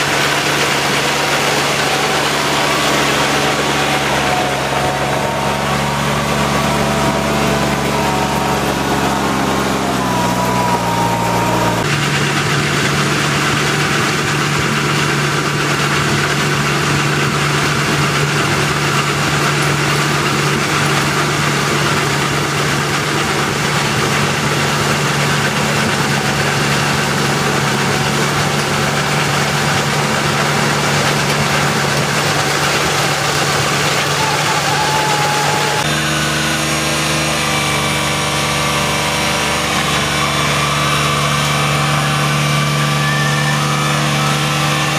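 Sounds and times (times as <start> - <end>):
harvester engine hum: 0.0 - 44.9
machinery noise: 0.0 - 44.9.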